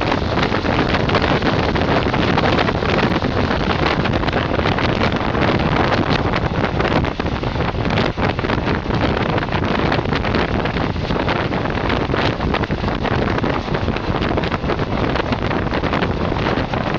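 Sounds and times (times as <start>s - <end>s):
train running on rails: 0.0s - 16.9s
wind buffeting microphone: 0.0s - 16.9s.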